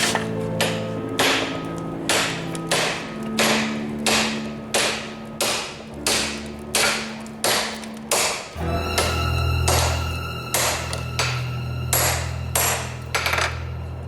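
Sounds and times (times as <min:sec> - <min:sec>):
hammer striking metal on anvil: 0:00.0 - 0:13.6.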